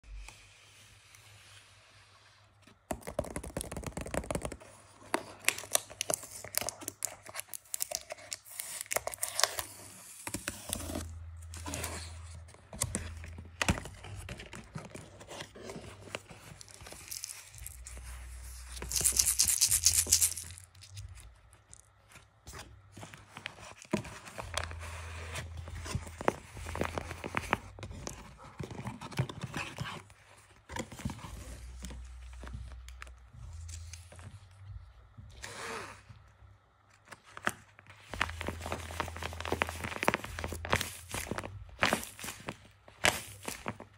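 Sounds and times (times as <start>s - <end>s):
paper packaging crinkling: 3.0s - 34.4s, 37.0s - 43.9s.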